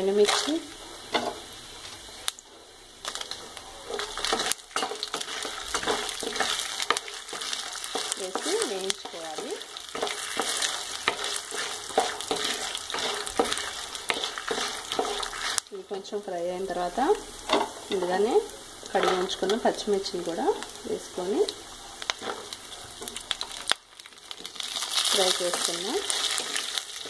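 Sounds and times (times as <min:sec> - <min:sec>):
wooden spoon scraping a pan: 0:00.0 - 0:16.2, 0:17.5 - 0:20.2, 0:22.1 - 0:27.0
food sizzling in hot oil: 0:00.0 - 0:27.0.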